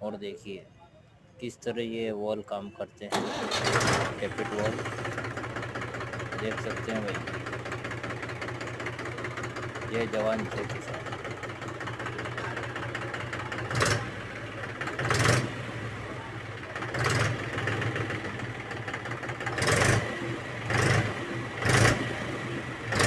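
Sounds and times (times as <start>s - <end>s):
tractor diesel engine idling: 3.1s - 23.0s
engine revving in blips: 3.2s - 23.0s.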